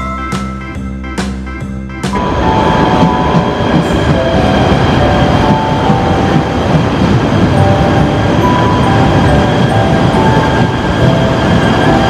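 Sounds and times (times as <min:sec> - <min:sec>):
train wheels rumbling on rails: 0:02.0 - 0:12.0.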